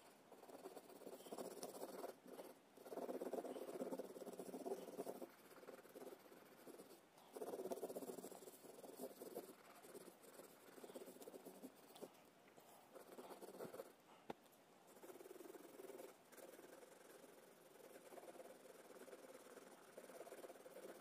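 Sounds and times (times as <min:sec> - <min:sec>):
coloured pencil scratching on paper: 0:00.0 - 0:14.0, 0:14.9 - 0:21.0.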